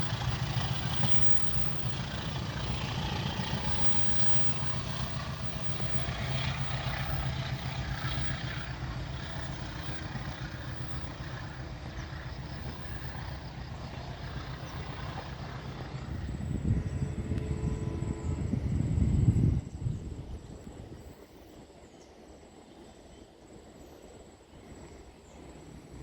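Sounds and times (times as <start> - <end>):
diesel locomotive engine rumbling: 0.0 - 26.0.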